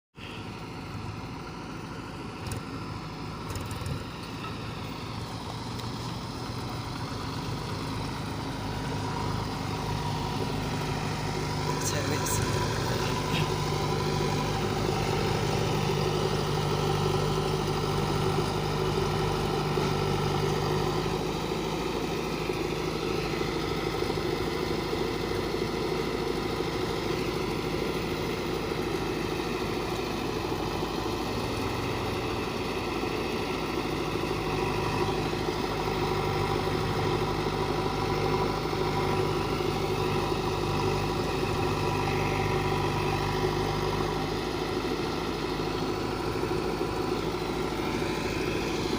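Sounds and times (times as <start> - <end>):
diesel engines running: 0.1 - 48.9.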